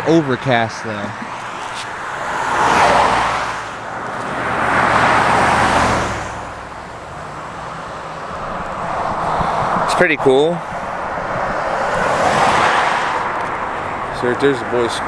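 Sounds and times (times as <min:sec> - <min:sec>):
cars passing by: 0:00.0 - 0:15.0.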